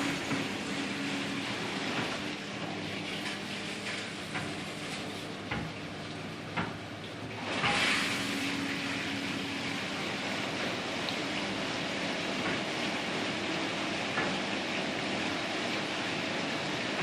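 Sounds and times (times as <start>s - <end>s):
water spraying and splashing: 0.0s - 5.8s, 6.6s - 17.0s
dishwasher pump hum: 0.0s - 17.0s.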